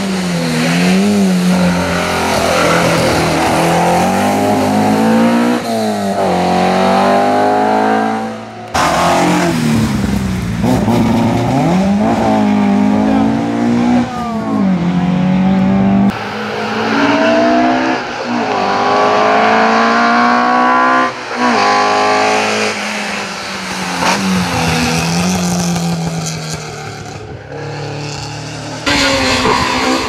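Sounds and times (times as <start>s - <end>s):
race car engines accelerating hard: 0.0s - 30.0s.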